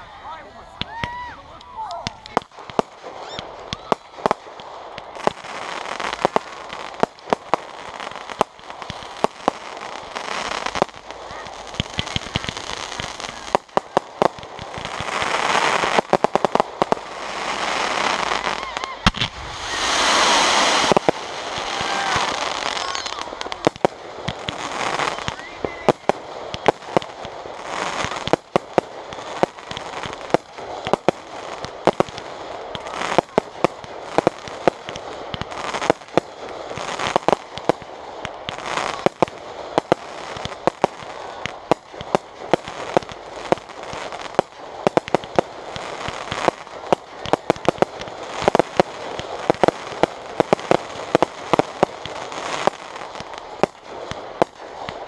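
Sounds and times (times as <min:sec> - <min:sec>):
firework hiss and crackle: 0:00.0 - 0:55.0
firework bangs: 0:00.7 - 0:55.0.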